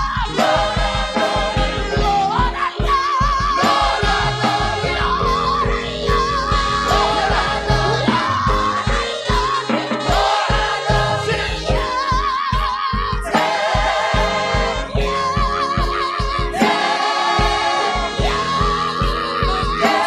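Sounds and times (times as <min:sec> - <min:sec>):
band playing: 0:00.0 - 0:20.0
choir singing with vibrato: 0:00.0 - 0:20.0
steady drum beat: 0:00.0 - 0:20.0.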